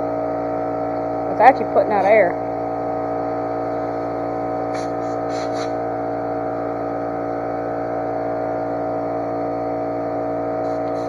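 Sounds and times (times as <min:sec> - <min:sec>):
electric air compressor running: 0:00.0 - 0:11.0.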